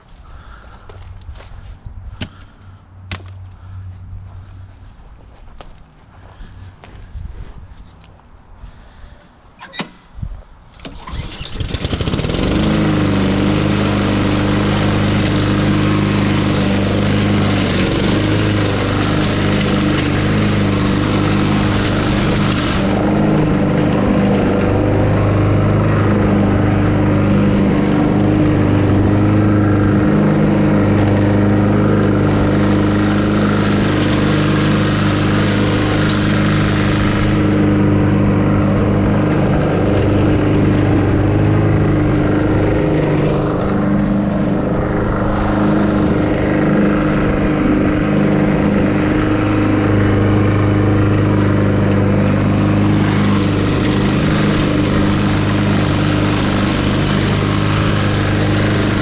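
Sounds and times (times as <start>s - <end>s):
lawn mower engine: 0.0s - 59.0s.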